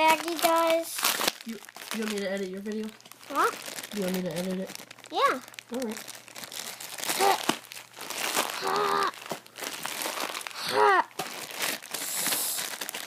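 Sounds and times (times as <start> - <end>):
plastic baggie crinkling: 0.0 - 13.0.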